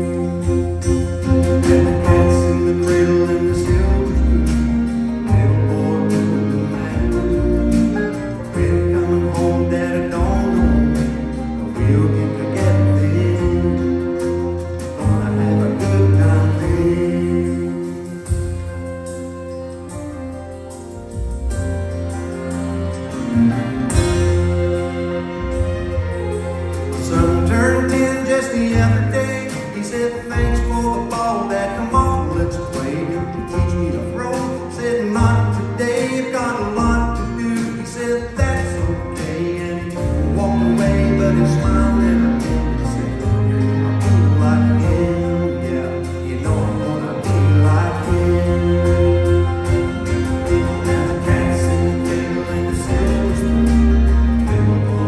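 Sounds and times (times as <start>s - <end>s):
bluegrass band with orchestra: 0.0s - 55.0s.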